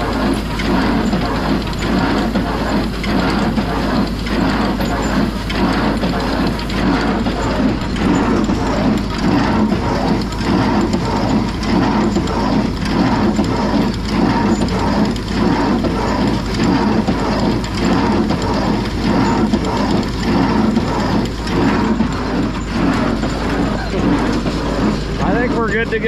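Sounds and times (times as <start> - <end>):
baler mechanism clattering: 0.0 - 26.0.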